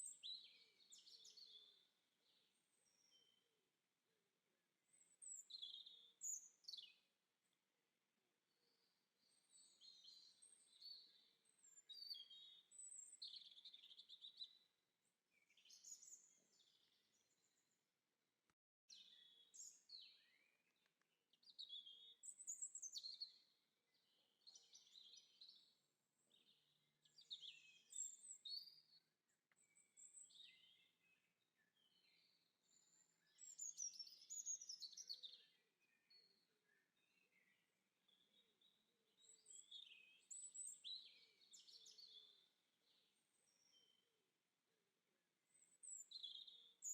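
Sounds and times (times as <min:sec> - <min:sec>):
faint songbirds chirping: 0:00.0 - 0:46.9.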